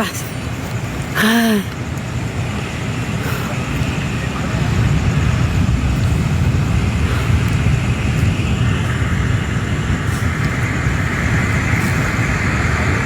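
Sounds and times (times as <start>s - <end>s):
loud outdoor rumble: 0.0s - 13.0s.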